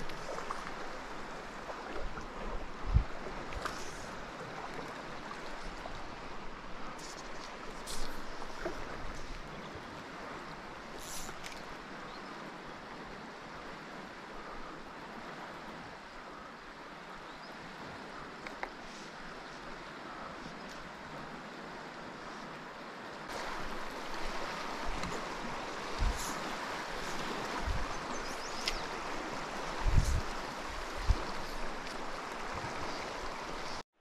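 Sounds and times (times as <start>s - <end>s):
river rushing: 0.0s - 33.8s.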